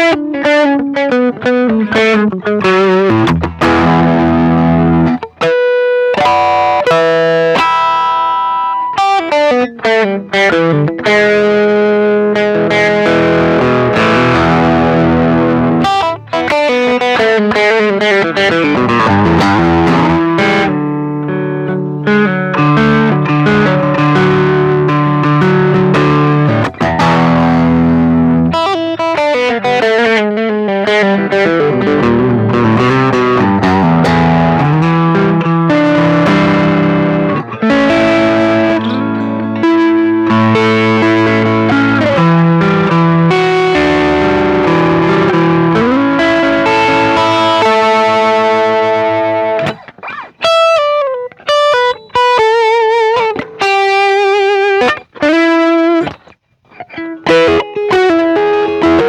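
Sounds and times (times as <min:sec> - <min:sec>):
distorted electric guitar: 0:00.0 - 0:59.0.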